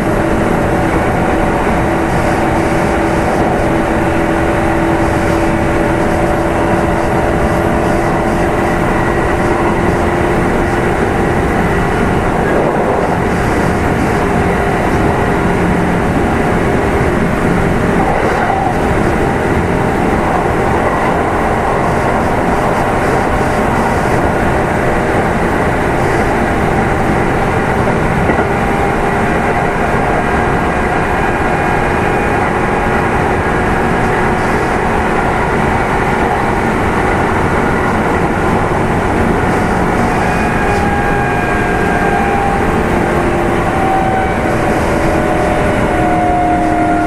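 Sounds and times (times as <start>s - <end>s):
traction motor hum: 0.0s - 47.0s
train wheels on rails: 0.0s - 47.0s.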